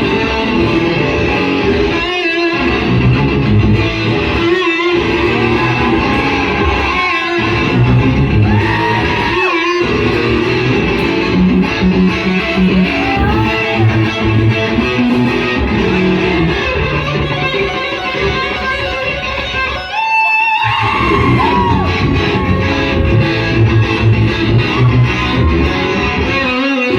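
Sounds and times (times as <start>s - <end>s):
rock electric guitar playing: 0.0s - 26.9s.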